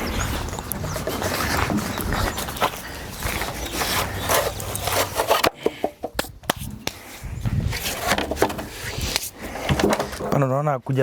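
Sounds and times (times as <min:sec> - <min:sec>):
hand tools scraping wood and soil: 0:00.3 - 0:10.5.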